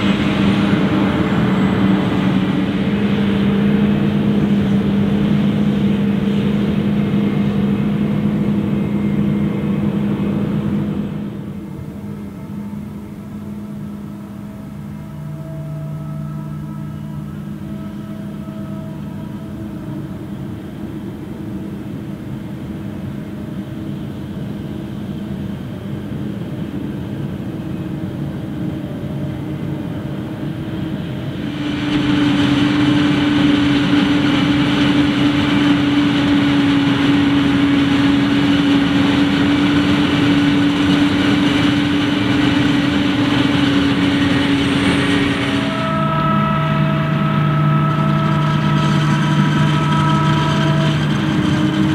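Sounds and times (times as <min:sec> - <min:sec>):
heavy engine drone: 0:00.0 - 0:51.9.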